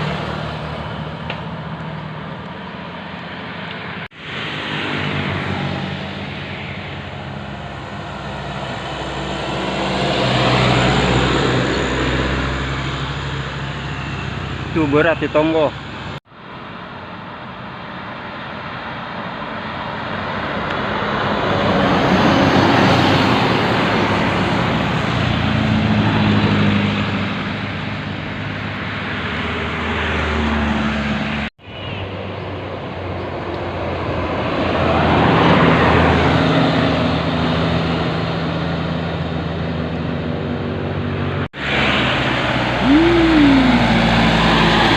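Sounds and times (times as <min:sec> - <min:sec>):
heavy vehicles passing by: 0:00.0 - 0:44.9.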